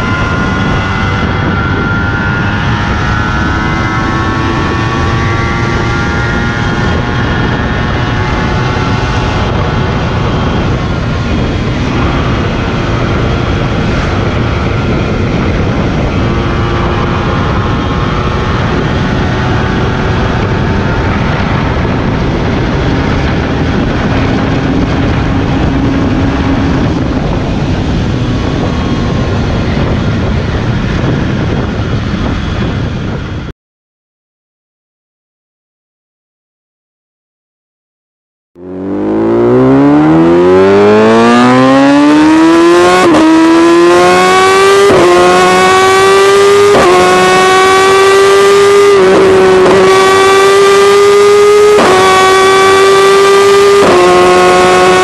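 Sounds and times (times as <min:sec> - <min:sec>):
motorcycle engine shifting gears: 0:00.0 - 0:33.5, 0:38.6 - 0:55.0
wind and road rush: 0:00.0 - 0:33.5, 0:38.6 - 0:55.0.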